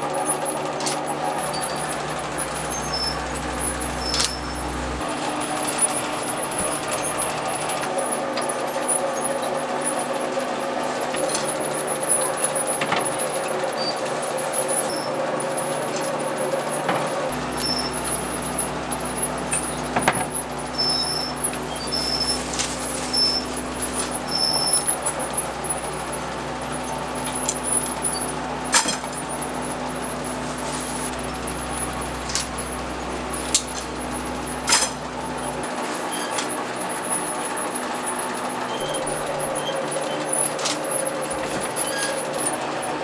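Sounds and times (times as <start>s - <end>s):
machinery humming: 0.0s - 43.0s.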